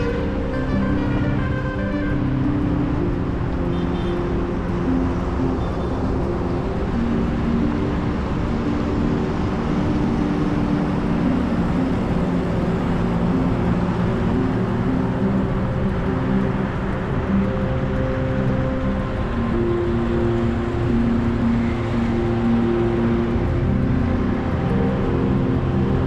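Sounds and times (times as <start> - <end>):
background music: 0.0 - 26.0
rushing wind: 0.0 - 26.0
vehicle road noise: 0.0 - 26.0.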